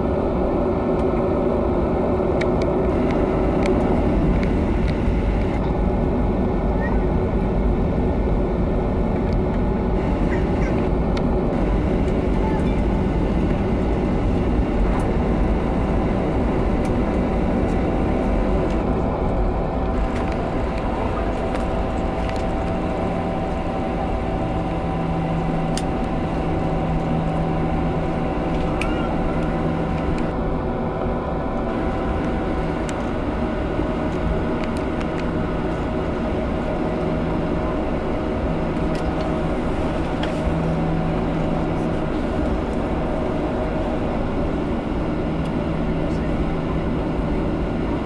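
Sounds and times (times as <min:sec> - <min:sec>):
jet engines humming at idle: 0:00.0 - 0:48.0.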